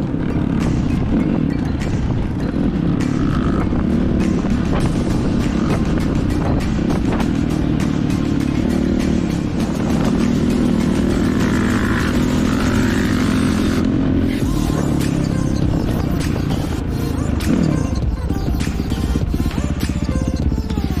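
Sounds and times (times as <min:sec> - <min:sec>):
dirt bike engine running: 0:00.0 - 0:21.0
music: 0:00.0 - 0:21.0.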